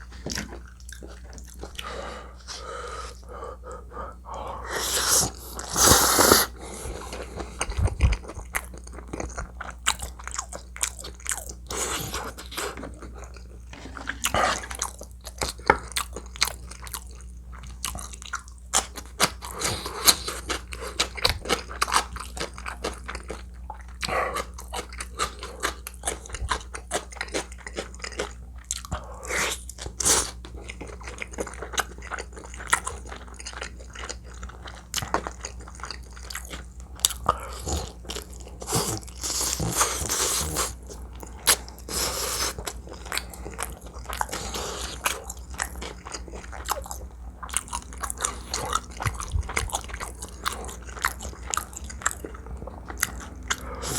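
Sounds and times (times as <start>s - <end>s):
person chewing food: 0.0s - 53.9s
crunching and wet clicking: 7.1s - 39.6s, 42.5s - 53.9s.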